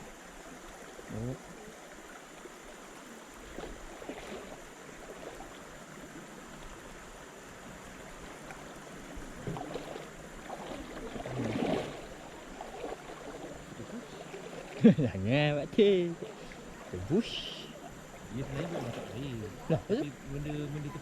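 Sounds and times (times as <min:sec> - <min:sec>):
shallow river running: 0:00.0 - 0:21.0
water bursts: 0:00.0 - 0:21.0.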